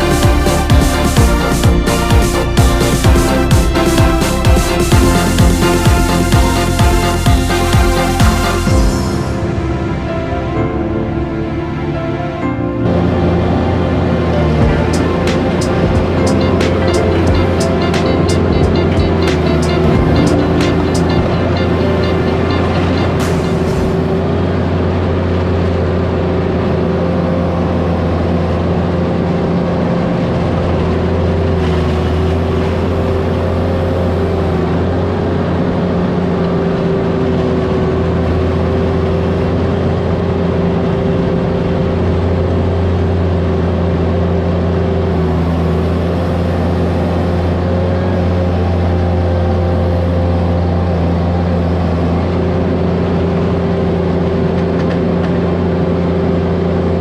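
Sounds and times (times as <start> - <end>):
engine droning at high speed: 0.0 - 57.0.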